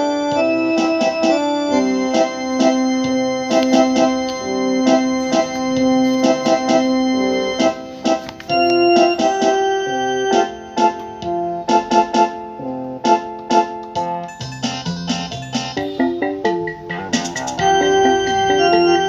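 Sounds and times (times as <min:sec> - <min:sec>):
electronic keyboard melody: 0:00.0 - 0:19.0.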